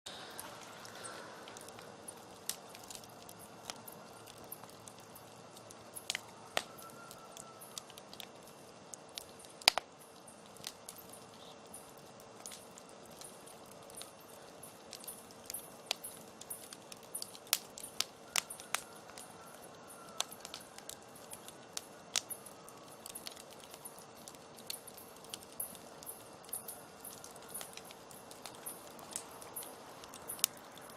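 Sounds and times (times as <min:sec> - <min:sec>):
campfire crackling: 0:00.1 - 0:30.9
faint steady hum: 0:00.1 - 0:30.9.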